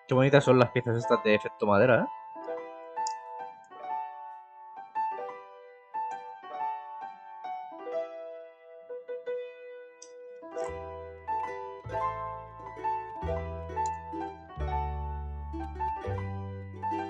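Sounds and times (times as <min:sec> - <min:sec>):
keyboard piano melody: 0:00.0 - 0:17.0.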